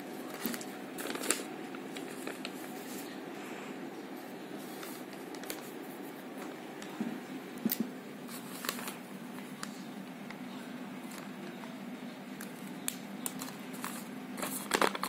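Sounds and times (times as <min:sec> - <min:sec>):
steady low hum: 0:00.0 - 0:15.0
paper being handled: 0:00.2 - 0:03.2, 0:04.1 - 0:07.0, 0:08.2 - 0:15.0.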